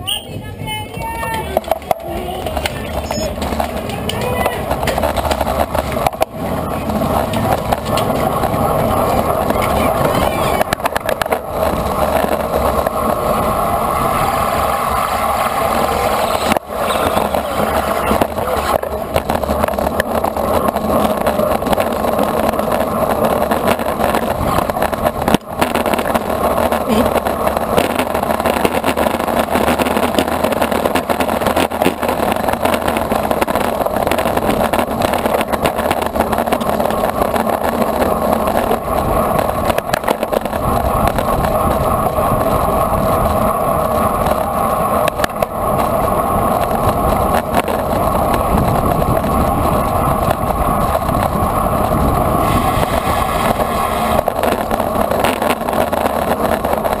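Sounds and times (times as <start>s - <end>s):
bicycle tyre and road noise: 0.0s - 57.0s
wind rushing against microphone: 0.0s - 57.0s.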